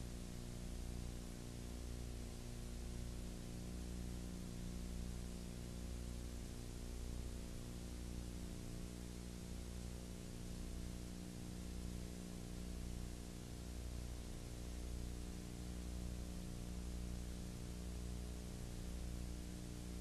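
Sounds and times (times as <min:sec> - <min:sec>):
constant hiss: 0:00.0 - 0:20.0
low electrical hum: 0:00.0 - 0:20.0.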